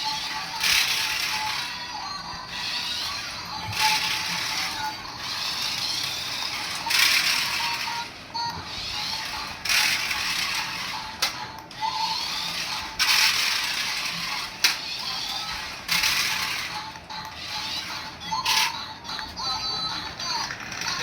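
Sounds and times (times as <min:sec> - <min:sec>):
toy motor whirring: 0:00.0 - 0:21.0.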